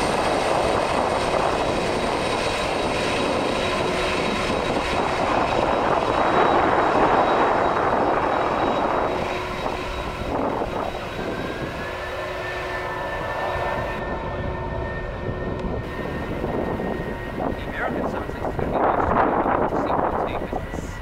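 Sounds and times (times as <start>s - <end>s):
airliner engines roaring: 0.0s - 21.0s
engine whine: 0.0s - 21.0s.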